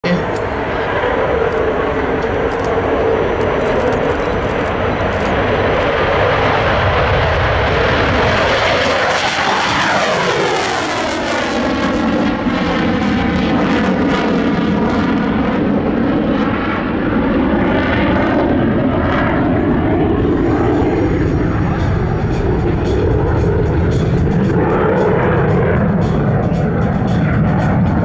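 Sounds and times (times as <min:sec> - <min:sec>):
jet fighter passing by: 0:00.0 - 0:28.0.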